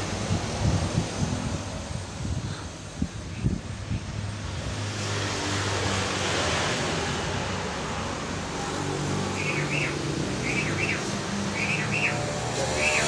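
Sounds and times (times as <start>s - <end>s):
low engine hum: 0.0s - 13.0s
vehicle passing rush: 0.0s - 13.0s.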